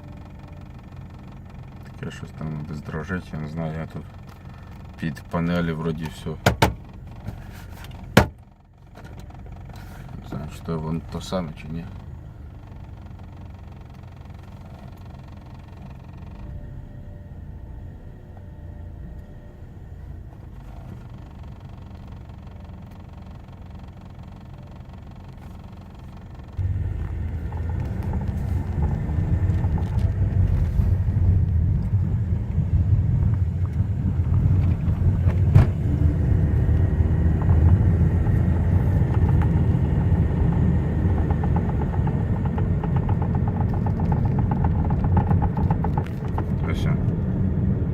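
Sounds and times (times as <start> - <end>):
car cabin road noise: 0.0 - 47.9.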